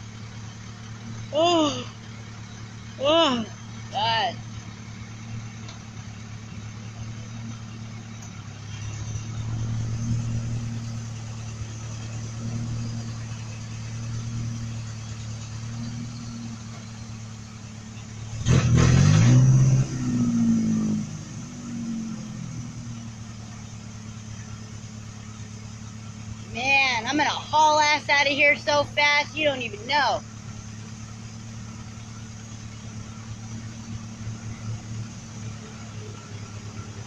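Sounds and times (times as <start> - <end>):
truck engine idling and revving: 0.0 - 37.0.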